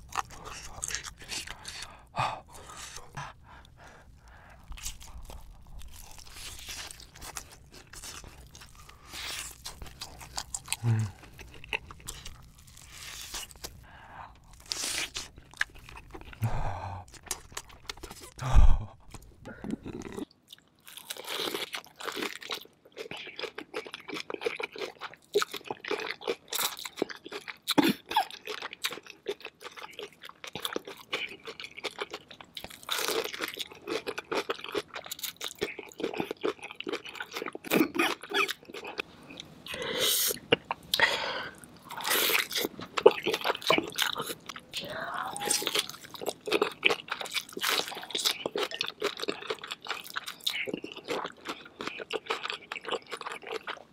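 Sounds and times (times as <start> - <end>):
crunching bites and chewing: 0.0 - 3.2, 4.3 - 16.4, 17.0 - 18.4, 19.0 - 39.5, 40.3 - 53.9.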